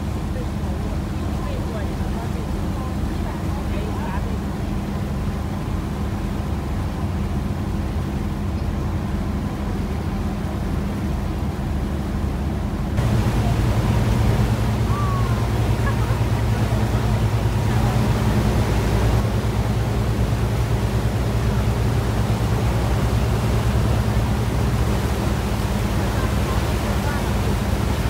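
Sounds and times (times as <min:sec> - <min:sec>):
boat engine droning: 0:00.0 - 0:28.0
wind and water rushing: 0:00.0 - 0:28.0.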